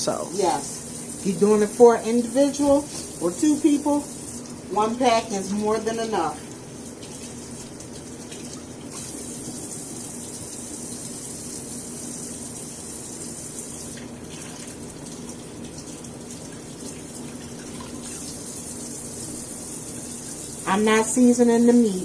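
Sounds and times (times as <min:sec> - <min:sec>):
kitchen tap running: 0:00.0 - 0:22.0.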